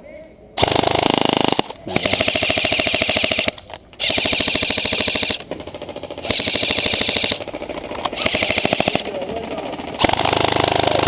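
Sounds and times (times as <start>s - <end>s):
airsoft gun firing full-auto: 0.6s - 11.0s.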